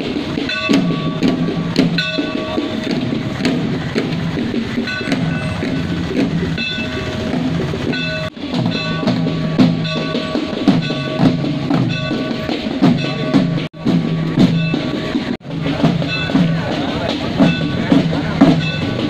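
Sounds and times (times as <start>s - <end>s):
pitch-bending drum beat: 0.0s - 19.0s.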